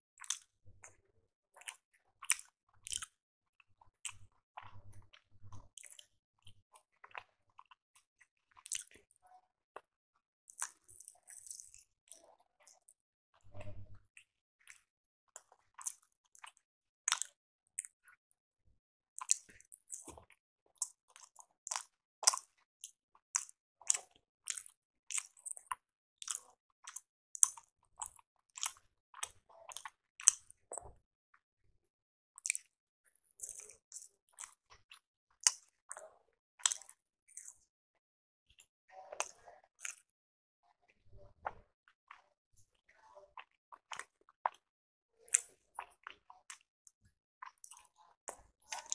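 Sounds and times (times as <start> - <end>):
close-miked chewing: 0.2 - 9.9, 10.5 - 18.2, 19.2 - 31.0, 32.4 - 37.7, 38.5 - 40.1, 41.4 - 48.9.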